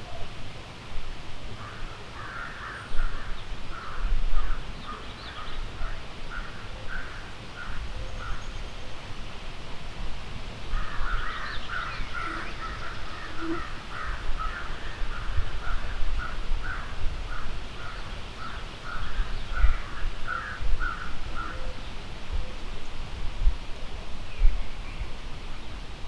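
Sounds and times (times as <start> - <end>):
wind rumble on microphone: 2.9 - 26.0.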